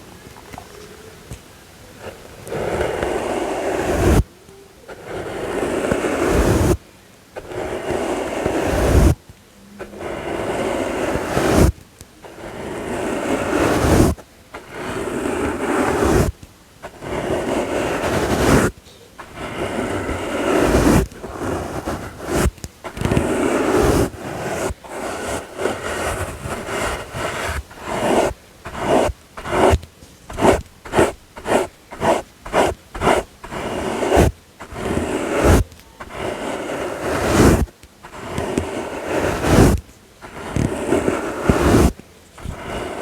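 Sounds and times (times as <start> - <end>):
soft brush sweeping strokes: 0.0 - 43.0.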